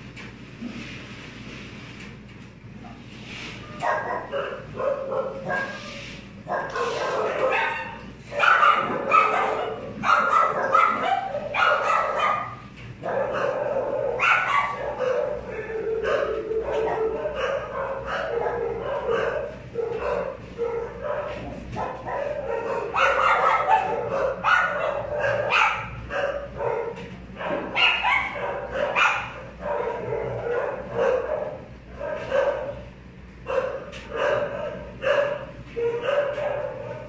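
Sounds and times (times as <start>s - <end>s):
dog barking yipping and whining: 3.6s - 37.0s.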